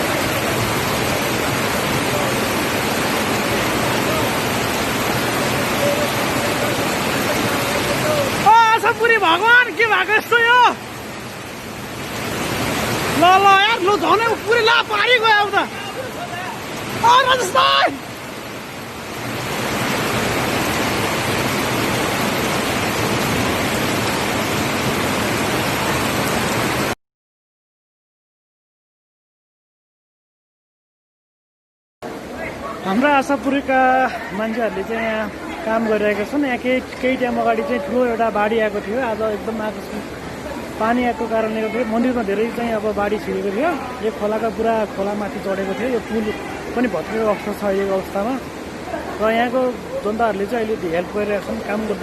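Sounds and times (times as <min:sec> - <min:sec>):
floodwater rushing: 0:00.0 - 0:27.0, 0:32.0 - 0:52.0.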